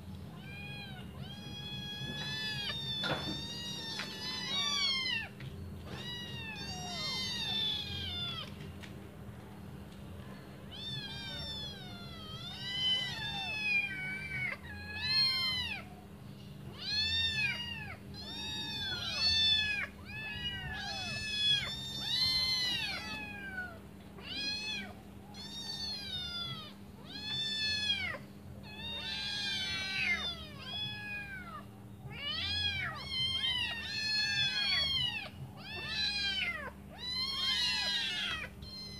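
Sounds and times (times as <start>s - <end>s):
faint steady hum: 0.0s - 38.9s
kittens meowing: 0.3s - 8.6s, 10.7s - 38.9s.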